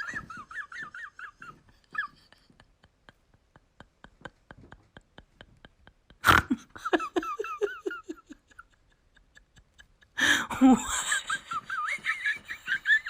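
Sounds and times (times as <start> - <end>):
person laughing: 0.0 - 13.0.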